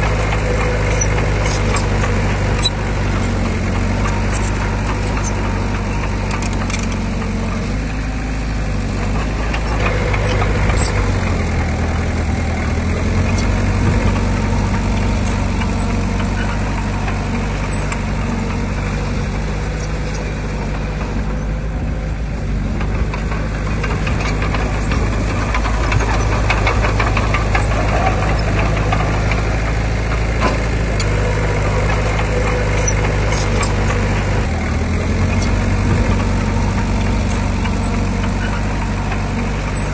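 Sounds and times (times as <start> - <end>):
clanks and rattles: 0.0 - 39.9
diesel earthmoving machinery running: 0.0 - 39.9.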